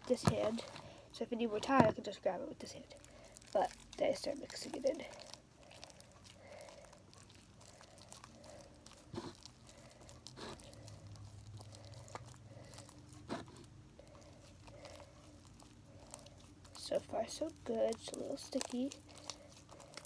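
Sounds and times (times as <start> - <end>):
sticky slime crackles: 0.0 - 20.0.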